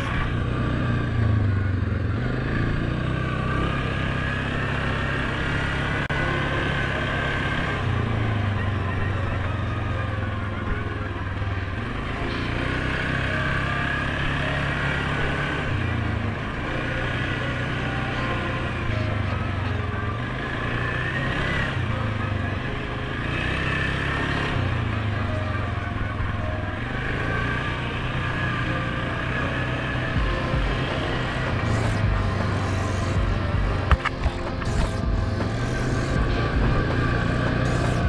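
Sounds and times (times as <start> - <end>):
atv engine running: 0.0 - 38.0.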